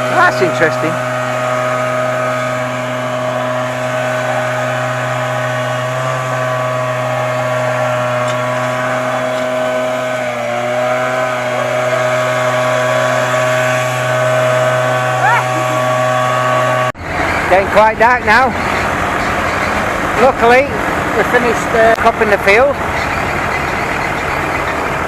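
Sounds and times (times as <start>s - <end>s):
blower running: 0.0s - 25.0s.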